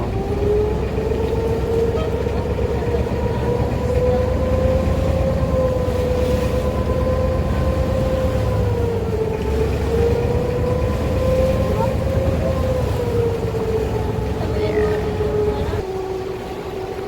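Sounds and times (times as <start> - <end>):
boat motor whining: 0.0 - 17.0.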